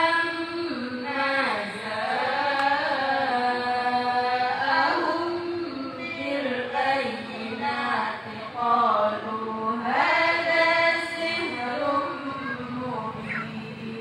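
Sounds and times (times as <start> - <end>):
women chanting: 0.0 - 14.0.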